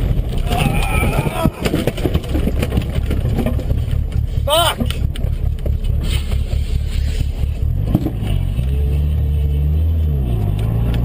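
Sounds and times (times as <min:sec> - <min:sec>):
car driving through snow rumble: 0:00.0 - 0:11.0
engine drone: 0:00.0 - 0:11.0.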